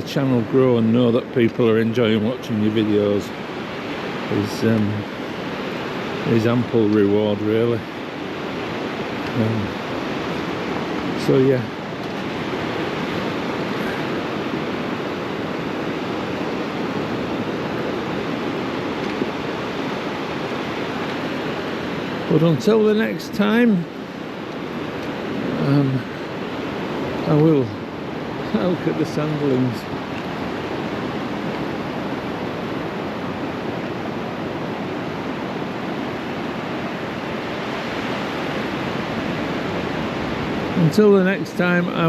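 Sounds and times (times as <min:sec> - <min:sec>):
sea surf washing on beach: 0:00.0 - 0:42.0.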